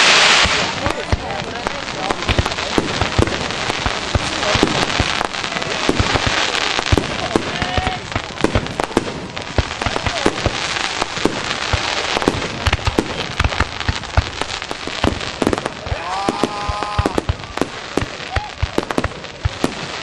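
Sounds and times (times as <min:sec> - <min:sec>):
crackling hiss: 0:00.0 - 0:20.0
fireworks cracking and popping: 0:00.0 - 0:20.0.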